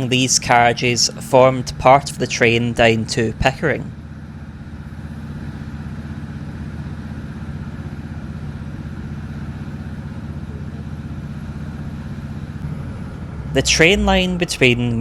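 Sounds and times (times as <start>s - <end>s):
train diesel engine running: 0.0s - 15.0s.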